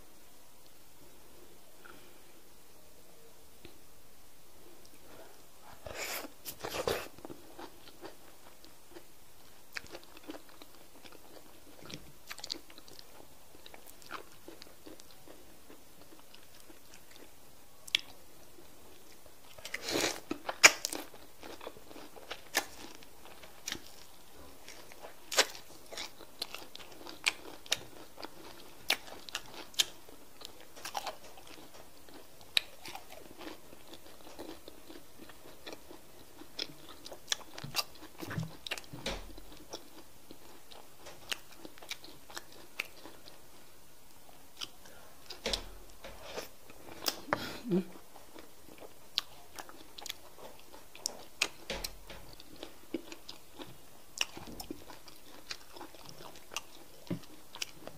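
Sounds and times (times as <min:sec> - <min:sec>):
person chewing food: 0:04.8 - 0:57.9.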